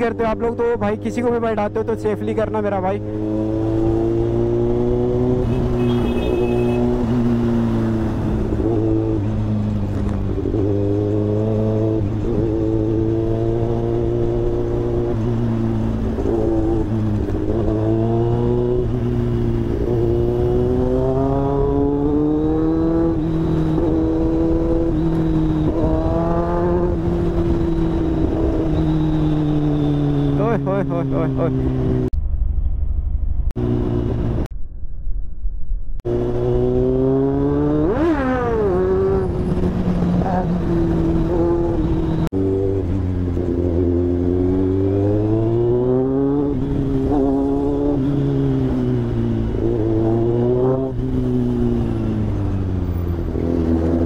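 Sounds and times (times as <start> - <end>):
motorcycle engine revving: 0.0 - 34.5, 36.0 - 54.0.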